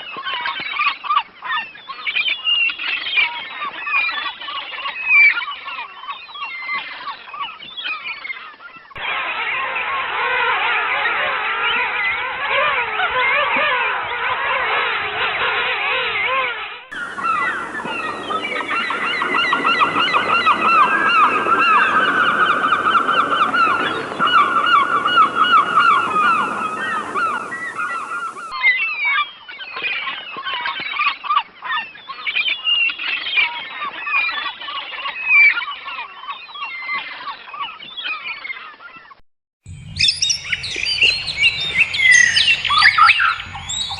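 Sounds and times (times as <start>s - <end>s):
chorus of birds calling: 0.1s - 31.2s, 39.7s - 43.9s.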